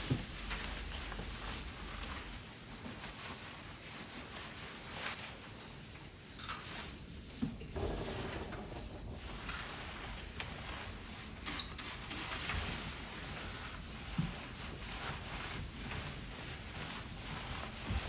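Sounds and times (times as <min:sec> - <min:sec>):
soft knocks and rubs: 0:00.0 - 0:04.5, 0:07.1 - 0:18.0
steady hiss: 0:00.0 - 0:18.0.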